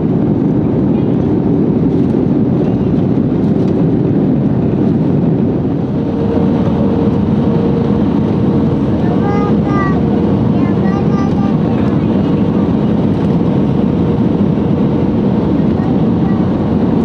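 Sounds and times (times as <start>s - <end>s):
jet engines and airflow rushing: 0.0s - 17.0s.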